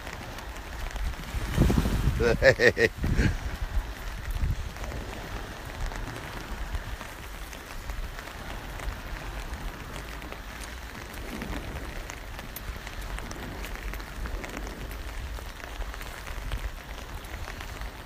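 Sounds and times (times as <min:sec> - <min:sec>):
rain pattering on an umbrella: 0:00.0 - 0:18.0.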